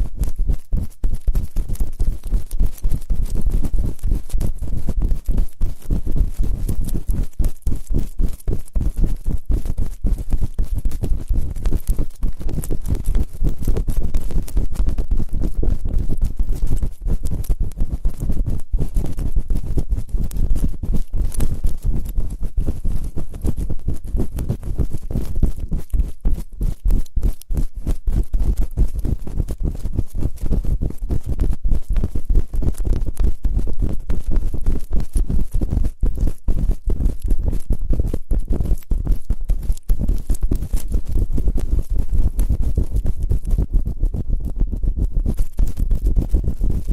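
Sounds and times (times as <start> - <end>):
scratching and tapping on microphone: 0.0 - 46.9.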